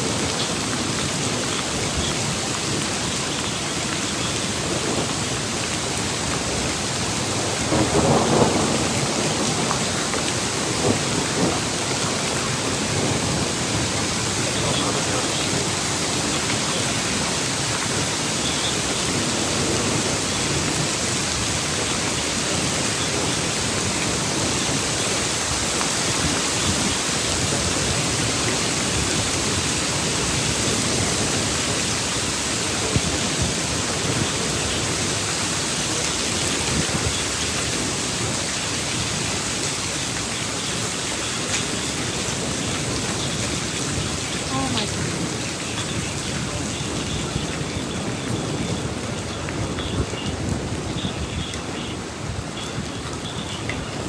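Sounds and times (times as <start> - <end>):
faint ticks of raindrops: 0.0 - 54.0
heavy rain hissing: 0.0 - 54.0.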